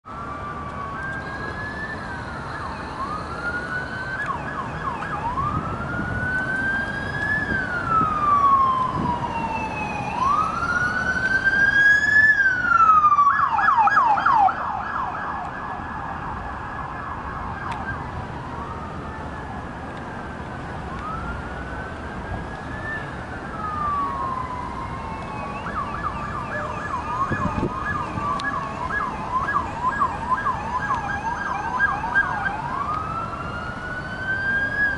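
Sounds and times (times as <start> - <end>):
emergency vehicle sirens: 0.0 - 34.9.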